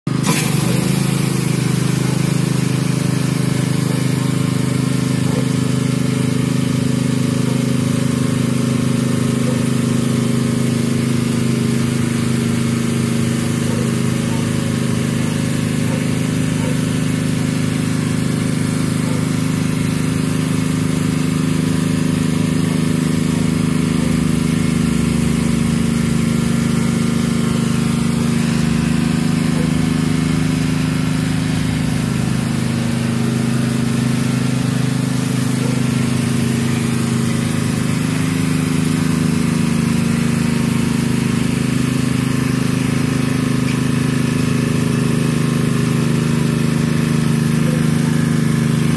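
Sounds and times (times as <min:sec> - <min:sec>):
high-pressure water hissing: 0:00.1 - 0:48.9
pressure washer engine drone: 0:00.1 - 0:48.9.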